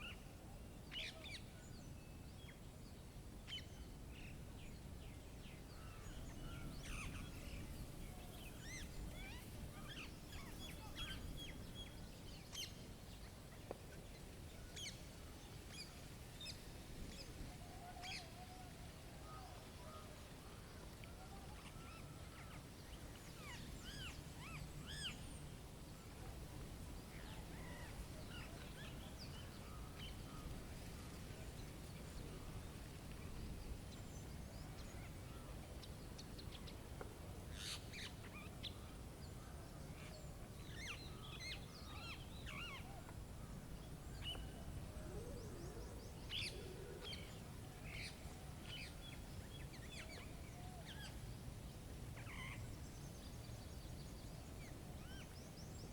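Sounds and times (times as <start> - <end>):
low rumble of storm wind: 0.0 - 55.9
songbirds chirping: 0.0 - 55.9.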